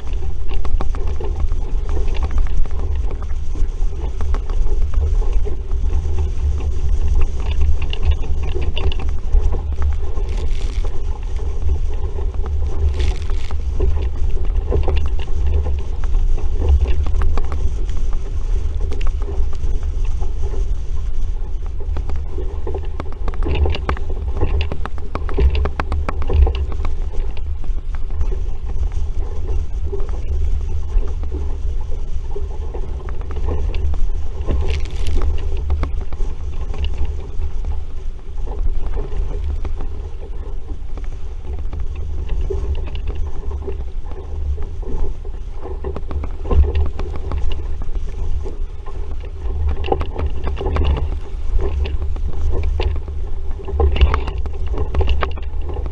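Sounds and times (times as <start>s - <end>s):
water slapping against hull: 0.0s - 55.9s
wind buffeting microphone: 0.0s - 55.9s.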